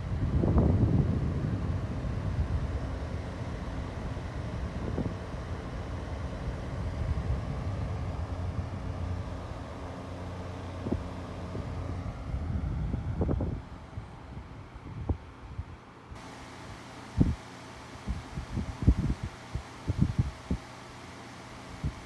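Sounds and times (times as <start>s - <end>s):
box fan running: 0.0s - 22.0s.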